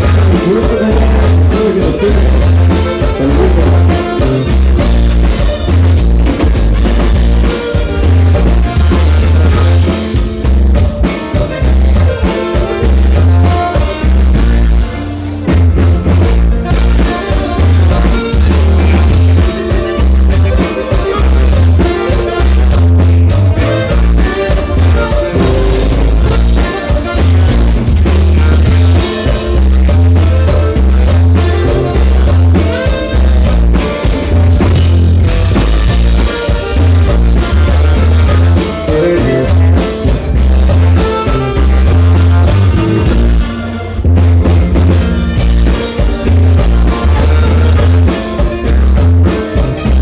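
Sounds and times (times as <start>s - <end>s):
loud dance band music: 0.0s - 50.0s.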